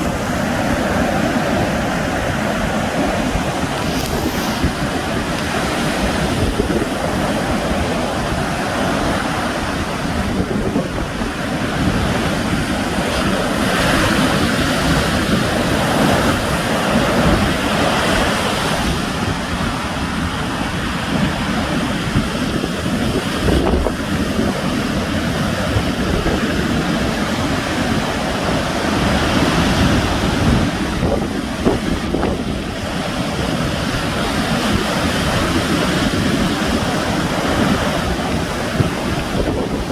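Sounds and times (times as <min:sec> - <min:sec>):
sea waves breaking on shore: 0:00.0 - 0:39.9
wind buffeting microphone: 0:00.0 - 0:39.9.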